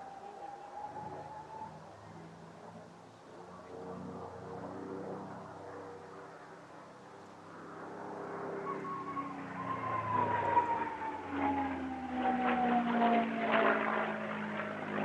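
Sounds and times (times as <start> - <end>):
propeller aircraft engine flypast: 0.0 - 15.0.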